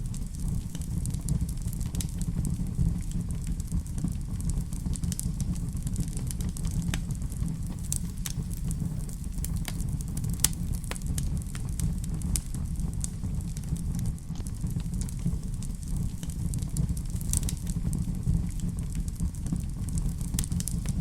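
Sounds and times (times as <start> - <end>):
fire crackles and pops: 0.0 - 21.0
fire rumbling in a fireplace: 0.0 - 21.0.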